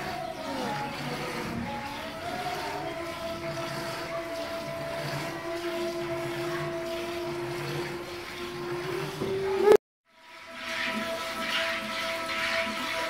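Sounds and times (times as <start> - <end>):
milk squirting into bucket: 0.0 - 9.6, 10.2 - 13.0
motor-like hum: 0.0 - 13.0.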